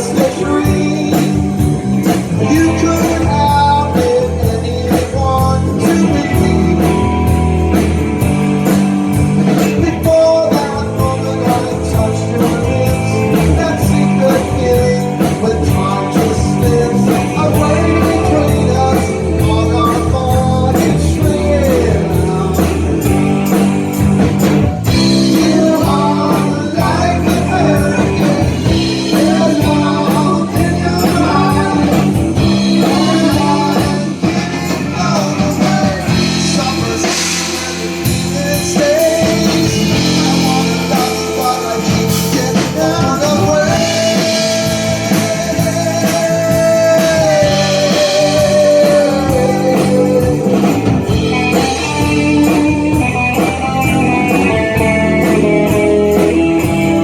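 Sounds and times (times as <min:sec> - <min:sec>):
drums: 0:00.0 - 0:57.0
electric guitar: 0:00.0 - 0:57.0
person singing: 0:00.0 - 0:57.0.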